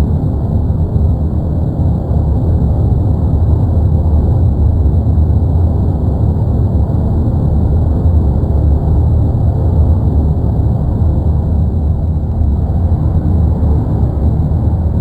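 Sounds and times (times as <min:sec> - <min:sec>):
volcano deep rumble: 0:00.0 - 0:15.0.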